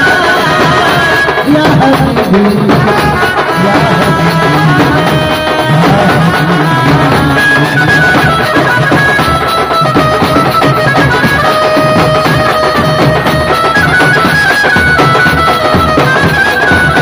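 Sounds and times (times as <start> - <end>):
amplified live band music: 0.0 - 17.0
hand drums beat: 0.0 - 17.0.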